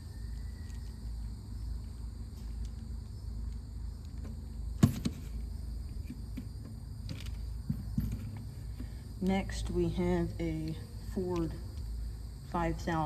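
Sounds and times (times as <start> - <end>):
faint high insect trill: 0.0 - 13.0
steady low hum: 0.0 - 13.0.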